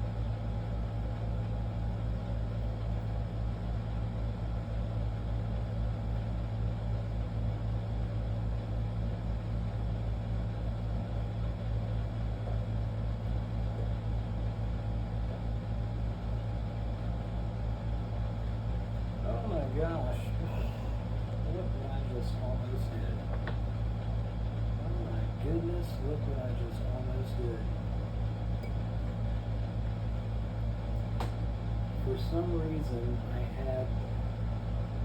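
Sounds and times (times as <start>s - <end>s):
motor humming with throb: 0.0s - 35.0s.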